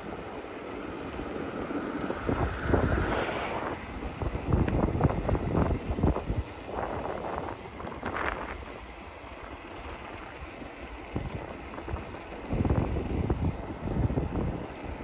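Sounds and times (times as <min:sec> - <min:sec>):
wind buffeting microphone: 0:00.0 - 0:09.0, 0:11.0 - 0:15.0.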